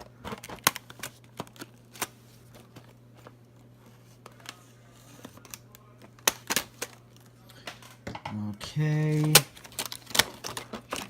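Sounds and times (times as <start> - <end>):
plastic packaging clicks and crinkles: 0.0 - 8.0, 8.8 - 11.0
steady low hum: 0.0 - 11.0.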